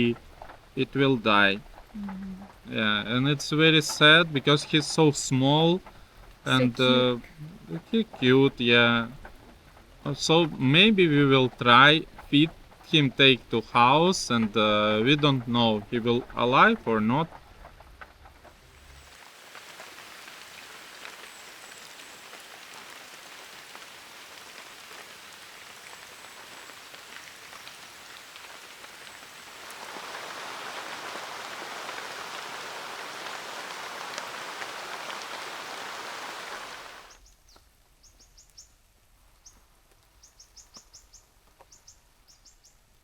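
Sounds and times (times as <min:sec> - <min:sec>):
rain falling: 0:00.0 - 0:37.4.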